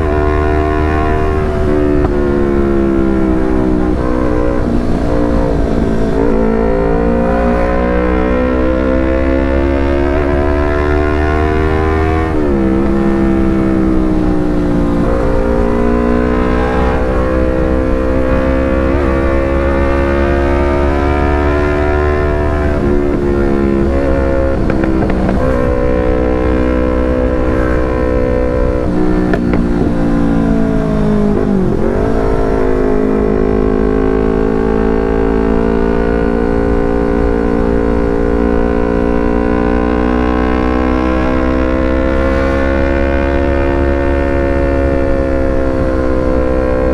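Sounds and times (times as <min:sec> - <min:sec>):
motorcycle engine exhaust note: 0:00.0 - 0:46.9.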